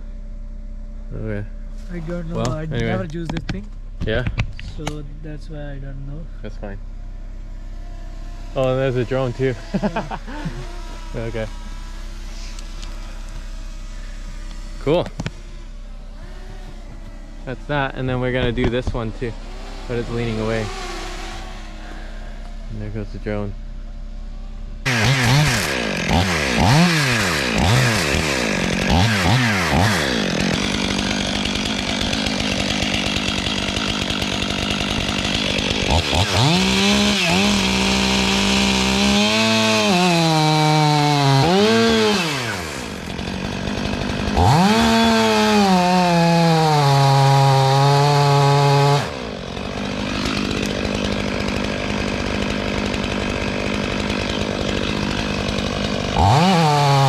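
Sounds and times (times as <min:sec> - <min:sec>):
chainsaw revving and cutting wood: 0:02.0 - 0:03.4, 0:07.6 - 0:23.5, 0:24.8 - 0:57.0.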